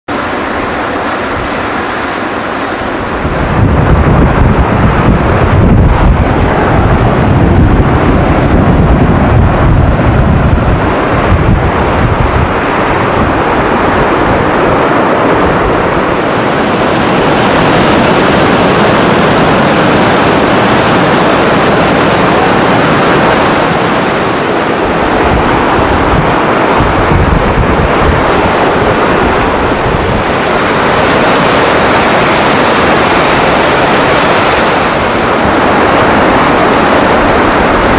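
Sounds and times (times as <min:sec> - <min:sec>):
heavy low rumble: 0:00.1 - 0:37.9
waterfall thundering rush: 0:00.1 - 0:37.9.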